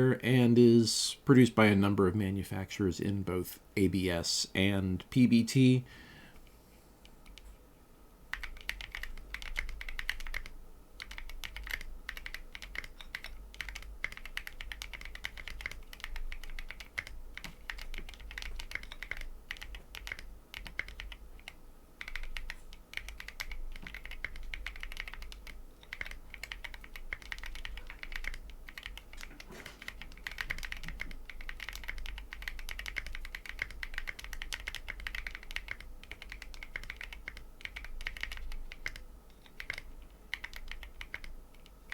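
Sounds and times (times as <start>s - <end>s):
mechanical keyboard typing: 8.3s - 41.9s.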